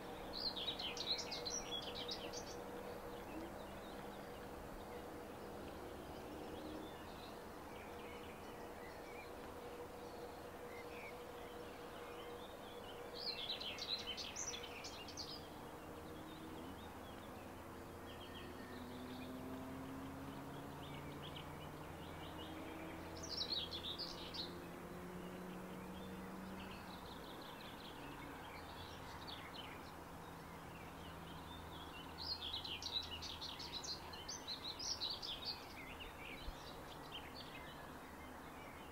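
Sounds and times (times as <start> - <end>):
faint outdoor background noise: 0.0 - 38.9.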